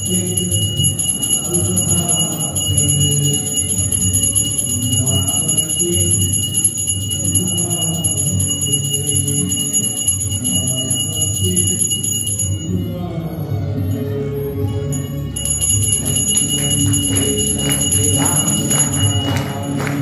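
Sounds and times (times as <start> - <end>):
hand bell rung rapidly: 0.0 - 13.0, 13.8 - 20.0
devotional singing with music: 0.0 - 20.0.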